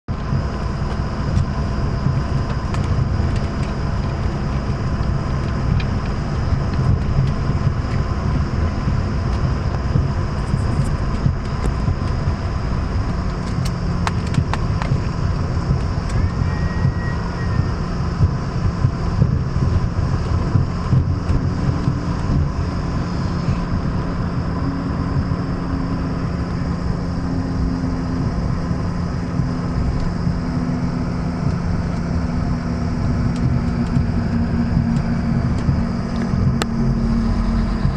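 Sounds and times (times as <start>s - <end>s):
high turbine whine: 0.0s - 37.9s
jet engine rumble: 0.0s - 37.9s.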